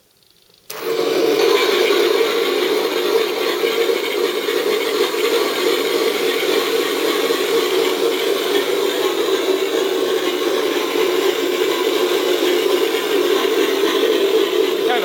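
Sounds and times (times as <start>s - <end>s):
simulated piston engines idling: 2.8s - 15.0s.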